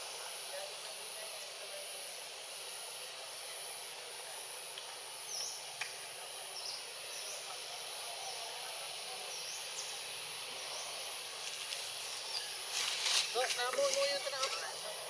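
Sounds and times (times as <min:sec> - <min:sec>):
background hiss: 0:00.0 - 0:15.0
high insect drone: 0:00.0 - 0:15.0.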